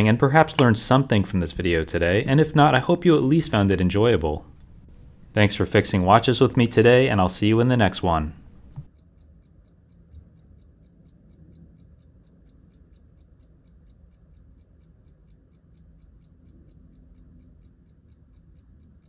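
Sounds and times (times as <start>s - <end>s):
pocket watch ticking: 0.0s - 19.0s.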